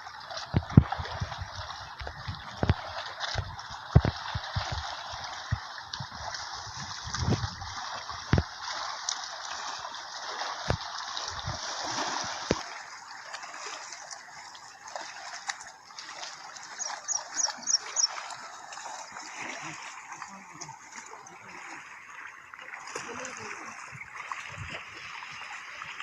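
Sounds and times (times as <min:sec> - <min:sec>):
water splashing and trickling: 0:00.0 - 0:26.0.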